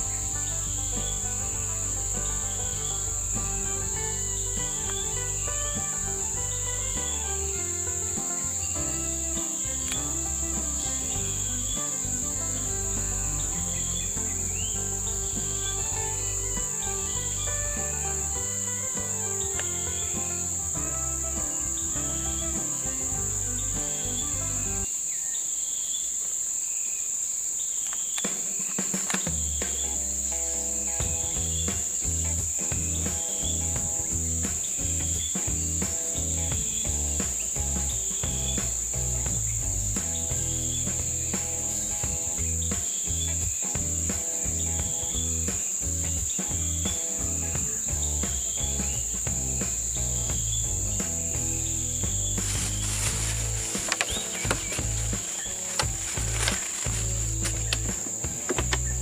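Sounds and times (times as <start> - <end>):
background music with bass: 0.0 - 24.9, 29.2 - 59.0
insect chorus drone: 0.0 - 59.0.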